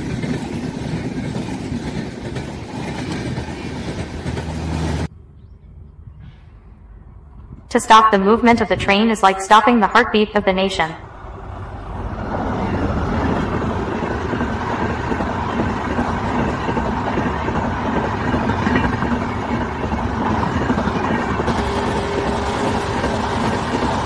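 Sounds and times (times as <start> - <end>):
train wheels rumbling on rails: 0.0 - 7.8, 11.0 - 24.0.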